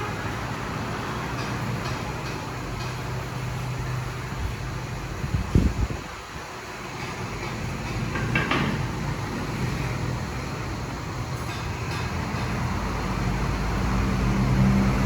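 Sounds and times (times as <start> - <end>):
road traffic noise: 0.0 - 15.0
vehicle engine humming: 0.0 - 15.0.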